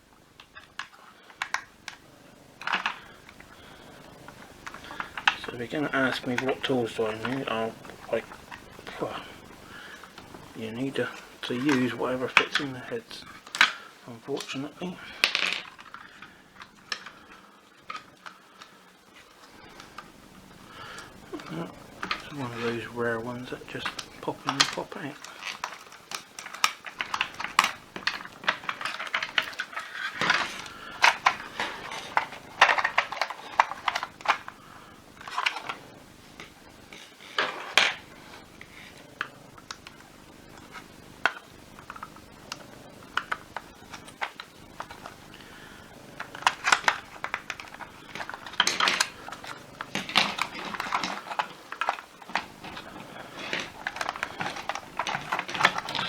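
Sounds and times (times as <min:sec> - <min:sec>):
plastic and metal parts clattering: 0:00.4 - 0:56.0.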